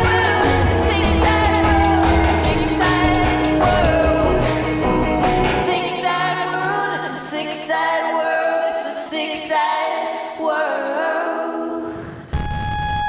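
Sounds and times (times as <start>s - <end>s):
woman singing: 0.0s - 4.7s, 5.4s - 12.3s.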